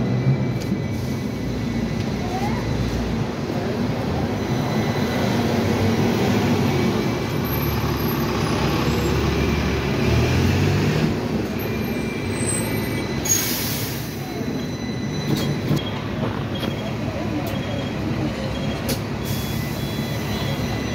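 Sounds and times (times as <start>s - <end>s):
tram wheels rumbling on rails: 0.0s - 13.4s, 14.0s - 20.9s.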